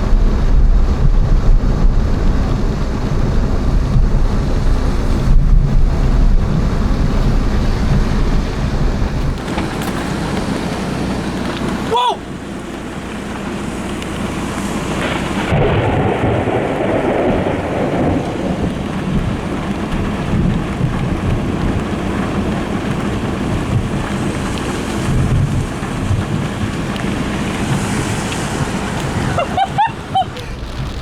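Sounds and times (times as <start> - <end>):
steady rain: 0.0 - 31.0
thunder rolling and rumbling: 0.0 - 31.0.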